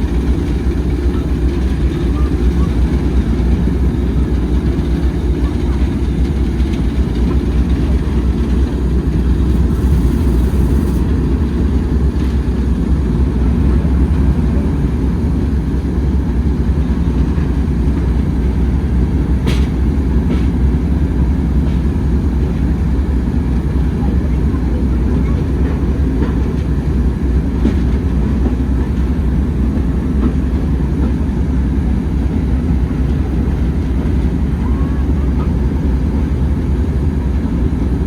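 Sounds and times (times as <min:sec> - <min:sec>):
train running rumble: 0:00.0 - 0:38.0.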